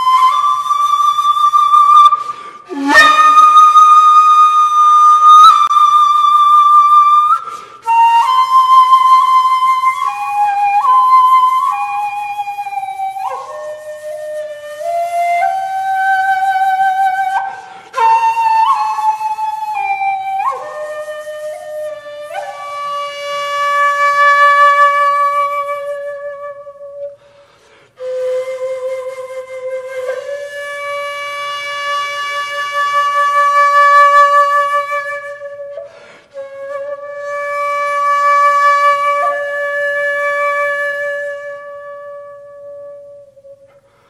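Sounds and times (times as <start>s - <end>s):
bamboo flute playing long notes: 0.0s - 44.0s.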